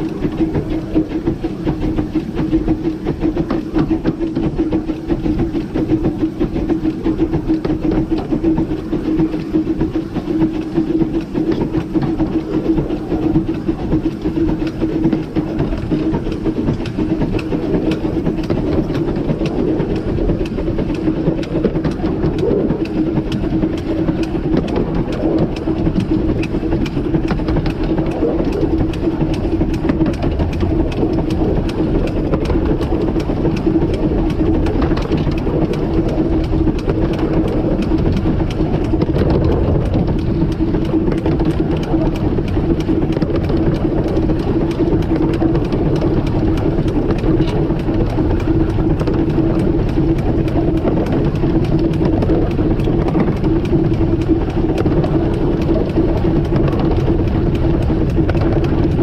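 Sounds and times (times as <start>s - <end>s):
steady hum: 0.0s - 59.0s
train wheels rumbling on rails: 0.0s - 59.0s.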